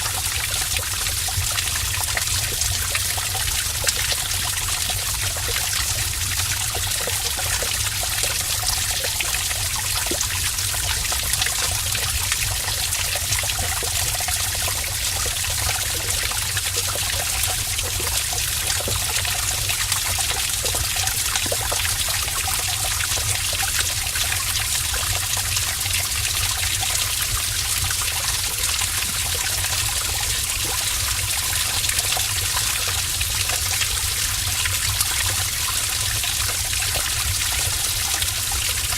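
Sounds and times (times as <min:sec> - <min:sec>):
water rushing through a cave: 0:00.0 - 0:38.9.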